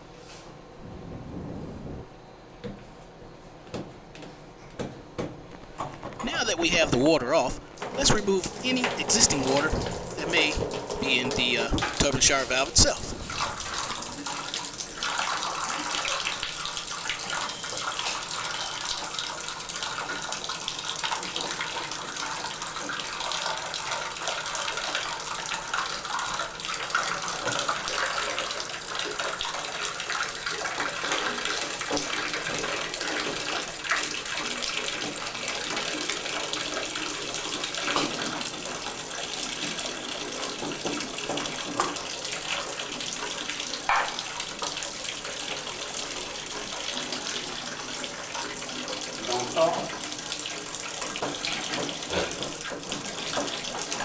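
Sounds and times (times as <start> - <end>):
water running into bathtub: 6.2 - 54.0.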